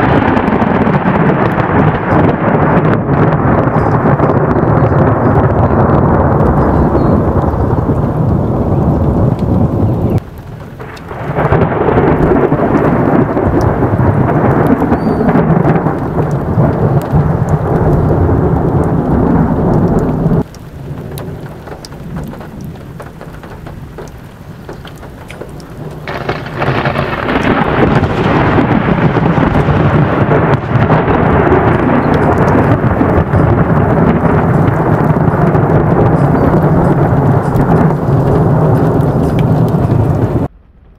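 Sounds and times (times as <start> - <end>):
rain: 0.0 - 40.9
rolls of thunder: 0.0 - 40.9.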